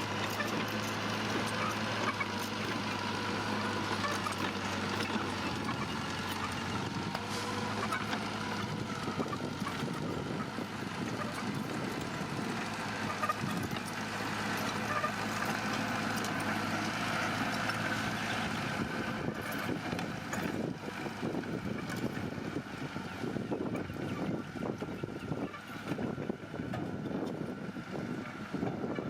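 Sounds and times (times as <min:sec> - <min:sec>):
heavy diesel machine engine hum: 0:00.0 - 0:29.0.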